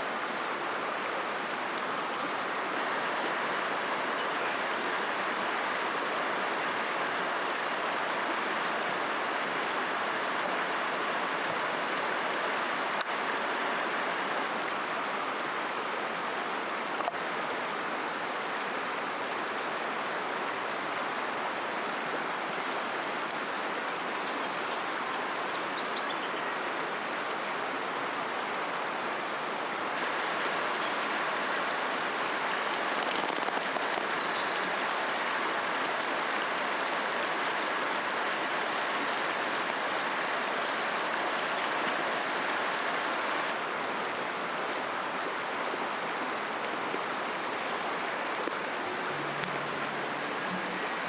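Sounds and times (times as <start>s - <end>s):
river water flowing: 0.0s - 51.0s.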